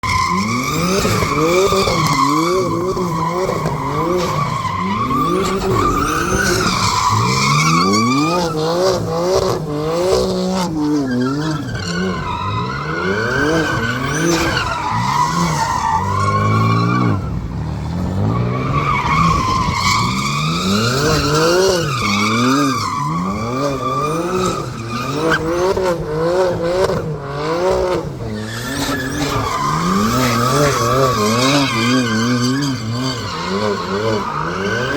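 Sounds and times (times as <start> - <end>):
tyre squeal: 0.0 - 17.4, 18.2 - 26.9, 27.6 - 34.9
car engine revving: 0.0 - 34.9.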